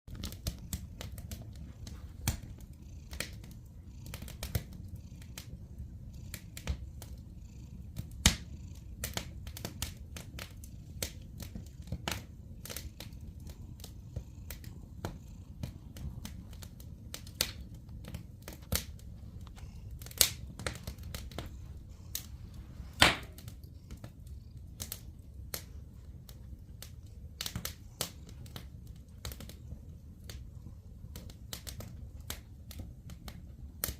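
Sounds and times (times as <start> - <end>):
cat purring: 0.1 - 33.9
wood fire crackling: 0.1 - 33.9.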